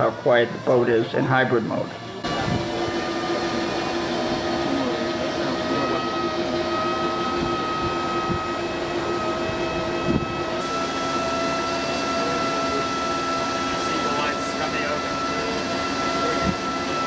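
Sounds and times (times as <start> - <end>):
boat engine hum with whining tones: 0.0 - 17.0.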